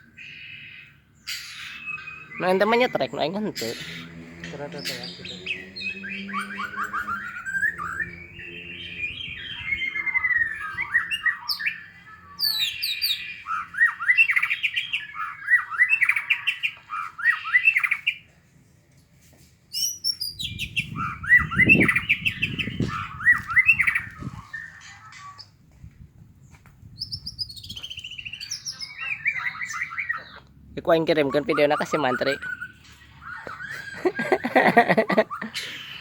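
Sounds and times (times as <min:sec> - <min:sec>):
songbird whistling and squawking: 0:00.0 - 0:04.2, 0:04.8 - 0:18.2, 0:19.7 - 0:25.6, 0:27.0 - 0:36.0.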